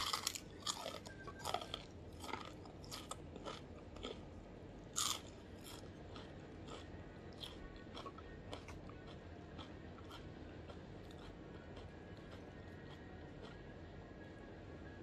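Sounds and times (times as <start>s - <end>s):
crunching fried wonton: 0.0s - 13.9s.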